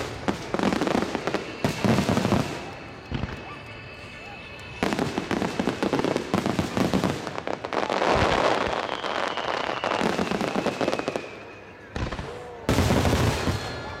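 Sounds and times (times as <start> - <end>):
descending firework whistle: 0.0 - 14.0
fireworks bangs and crackling: 0.0 - 14.0.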